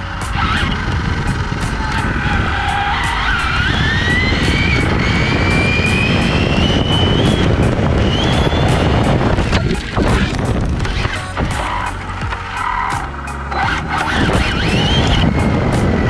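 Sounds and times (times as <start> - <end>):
wind on microphone: 0.0 - 12.4, 13.0 - 16.0
electric motor whine rising: 0.0 - 16.0
tyres rumbling on asphalt: 0.0 - 16.0.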